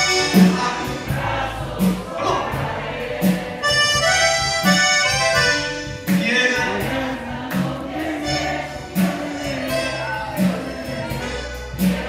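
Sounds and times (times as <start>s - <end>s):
accordion: 0.0s - 12.0s
live band playing: 0.0s - 12.0s
strong drum beat: 0.0s - 12.0s.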